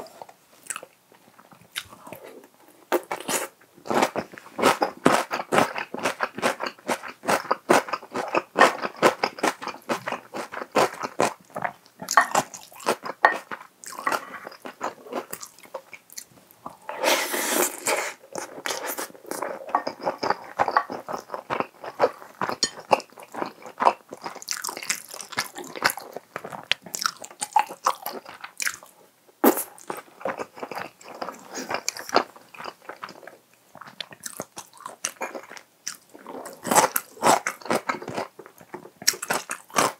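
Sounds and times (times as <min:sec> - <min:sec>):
chewing and biting food: 0:03.2 - 0:16.3, 0:18.4 - 0:28.9, 0:29.8 - 0:39.9.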